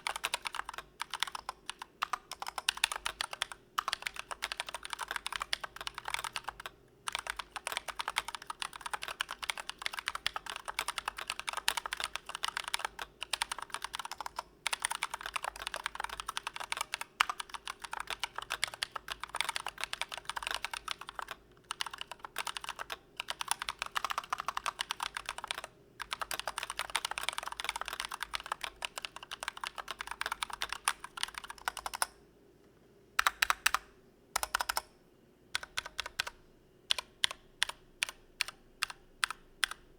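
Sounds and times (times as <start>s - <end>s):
mechanical keyboard typing: 0.0s - 32.2s, 33.2s - 34.9s, 35.6s - 39.9s.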